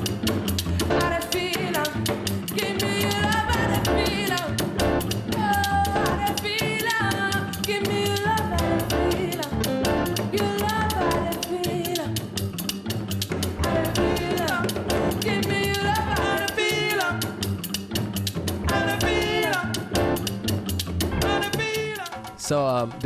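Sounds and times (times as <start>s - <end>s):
person singing: 0.0s - 12.3s, 13.6s - 17.5s, 18.6s - 20.2s, 21.1s - 23.0s
fast drum beat: 0.0s - 23.0s.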